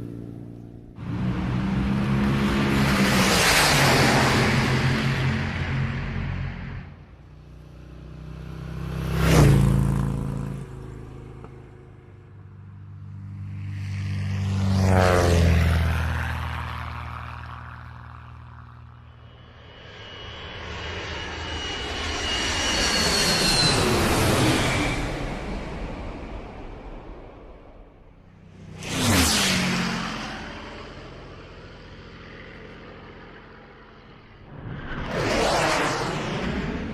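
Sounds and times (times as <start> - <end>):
engine approaching with high whine: 0.0 - 36.9
engines passing by: 0.0 - 36.9.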